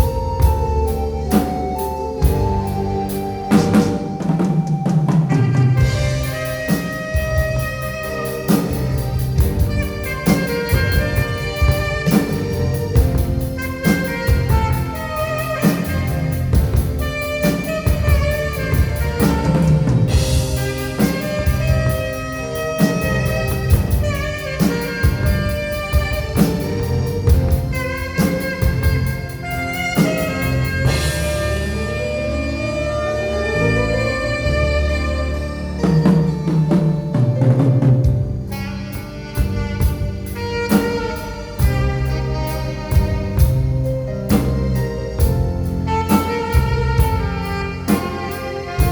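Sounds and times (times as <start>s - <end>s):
alto saxophone melody: 0.0s - 48.9s
drum kit beat: 0.0s - 48.9s
keyboard backing: 0.0s - 48.9s.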